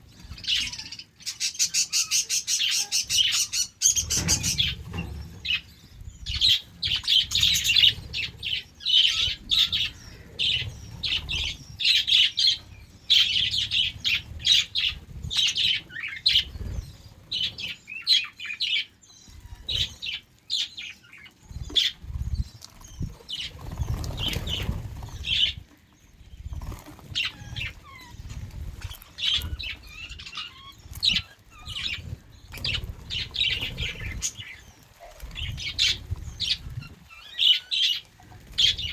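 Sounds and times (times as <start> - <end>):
budgerigars chirping: 0.2 - 25.7, 26.6 - 38.9.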